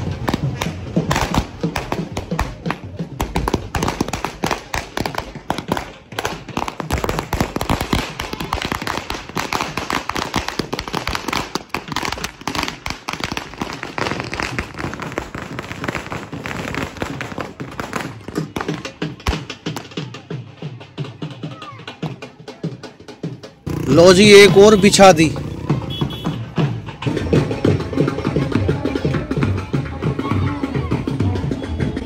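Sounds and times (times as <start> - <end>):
firecrackers crackling: 0.0 - 22.2, 23.3 - 32.0.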